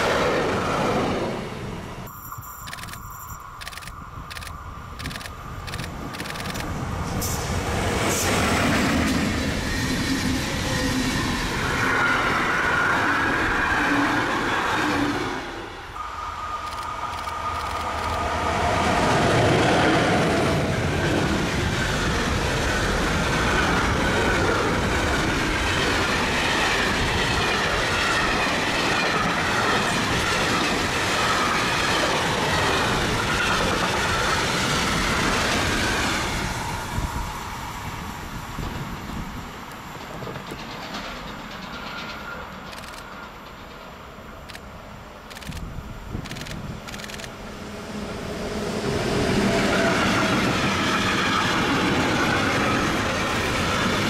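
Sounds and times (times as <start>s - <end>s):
freight train wheels on rails: 0.0s - 54.0s
passenger train passing: 0.0s - 54.0s
train whine: 0.0s - 54.0s.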